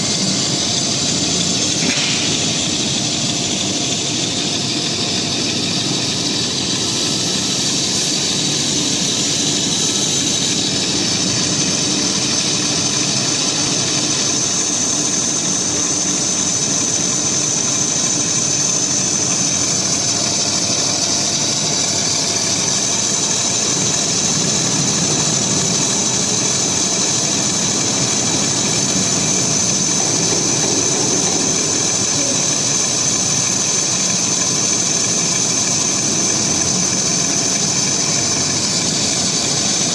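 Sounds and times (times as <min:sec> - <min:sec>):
machine humming with high whine: 0:00.0 - 0:39.9.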